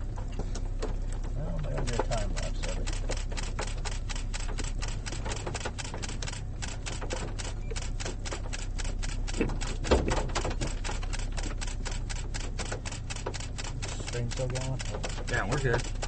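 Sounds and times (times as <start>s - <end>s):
rapid even clicking: 0.2s - 16.0s.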